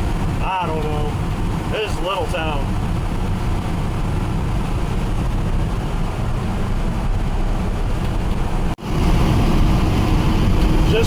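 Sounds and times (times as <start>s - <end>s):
pickup truck engine and road rumble: 0.0s - 11.0s.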